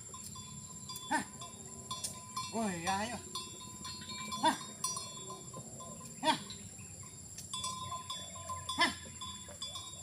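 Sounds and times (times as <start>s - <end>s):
faint steady ringing tones: 0.0s - 10.0s.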